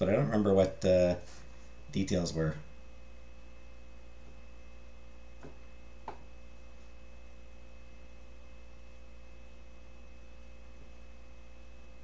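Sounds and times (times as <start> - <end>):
faint high-pitched whine: 0.0 - 12.0
low electrical hum: 0.0 - 12.0.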